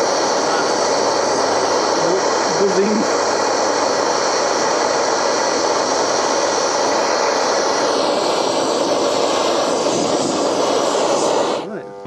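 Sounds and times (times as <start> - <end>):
blowtorch flame hissing: 0.0 - 12.0.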